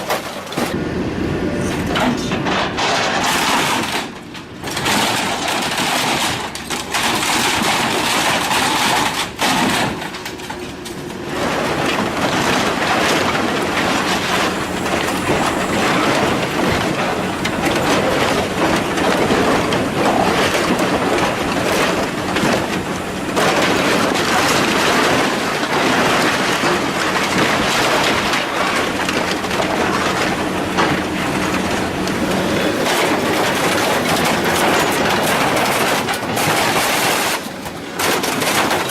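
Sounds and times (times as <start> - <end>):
machinery crushing scrap metal: 0.0 - 38.9
metal clanks and bangs: 1.6 - 38.9.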